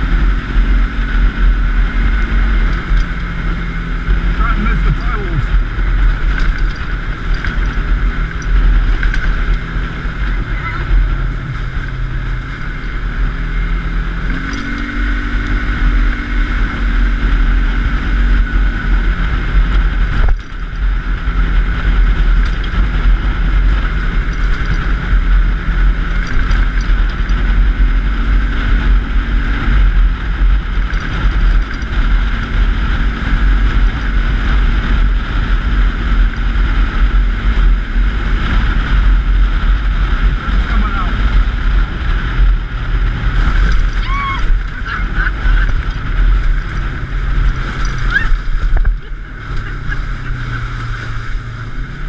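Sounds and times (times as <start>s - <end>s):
engine running steadily: 0.0s - 52.0s
wind on the microphone: 0.0s - 52.0s.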